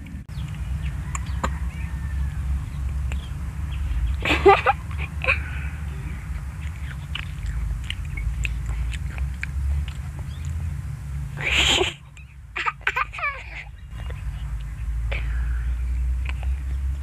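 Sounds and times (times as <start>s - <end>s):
steady low rumble: 0.0s - 17.0s
children chewing with wet smacks: 0.3s - 1.9s, 2.5s - 17.0s.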